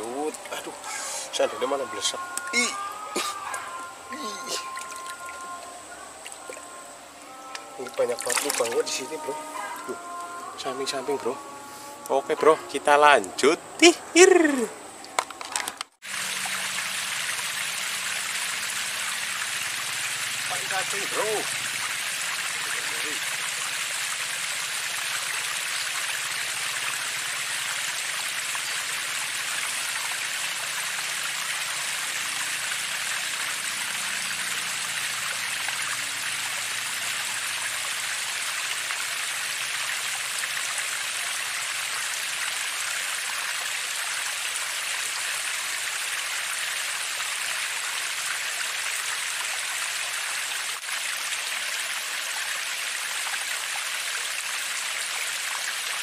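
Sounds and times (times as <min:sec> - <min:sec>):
water rushing in channel: 0:00.0 - 0:11.5, 0:15.6 - 0:56.0.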